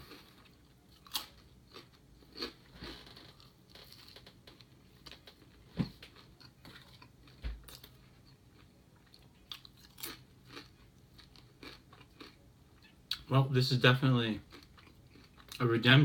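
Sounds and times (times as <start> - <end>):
chewing sandwich crunches: 0.0 - 13.3, 14.4 - 15.6.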